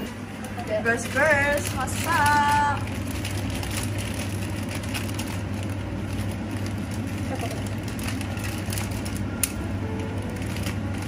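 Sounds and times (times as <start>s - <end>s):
cooktop low hum: 0.0s - 11.0s.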